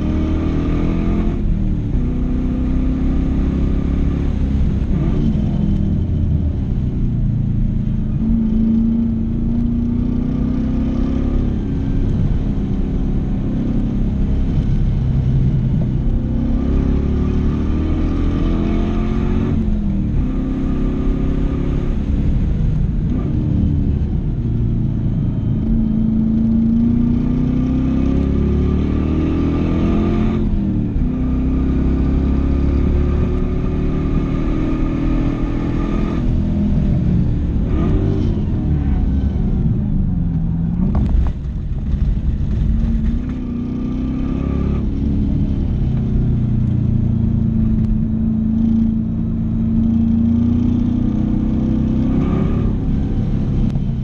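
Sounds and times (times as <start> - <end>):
car engine revving through gears: 0.0 - 6.8, 7.7 - 54.0.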